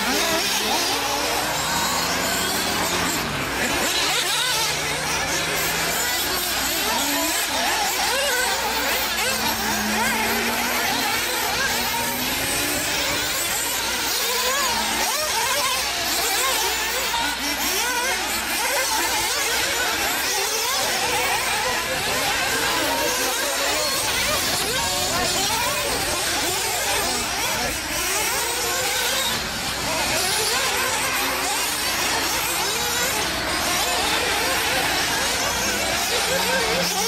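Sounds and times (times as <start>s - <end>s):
rc car motors whining: 0.0s - 37.0s.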